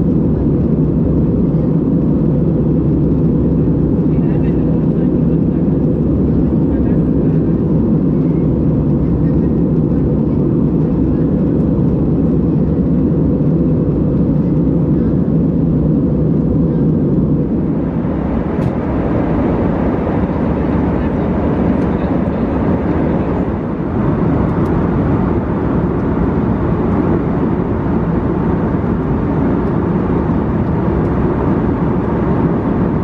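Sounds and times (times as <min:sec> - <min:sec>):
airliner cabin engine rush: 0:00.0 - 0:33.0.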